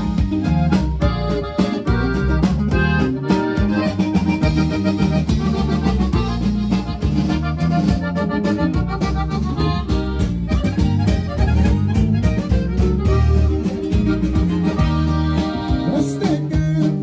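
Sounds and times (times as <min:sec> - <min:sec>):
button accordion melody: 0:00.0 - 0:17.0
live band playing: 0:00.0 - 0:17.0.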